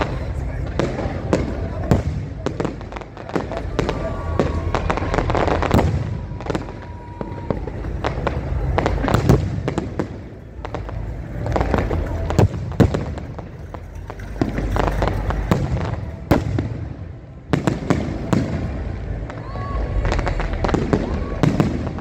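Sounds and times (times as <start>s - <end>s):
continuous low rumble: 0.0s - 22.0s
fireworks bangs: 0.0s - 22.0s.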